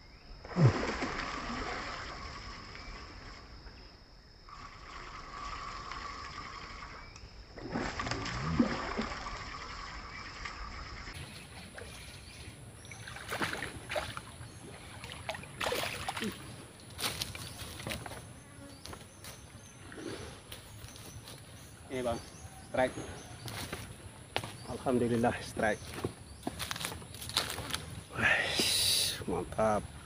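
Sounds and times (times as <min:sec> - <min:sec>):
insects buzzing: 0:00.0 - 0:30.0
outdoor background noise: 0:00.0 - 0:30.0.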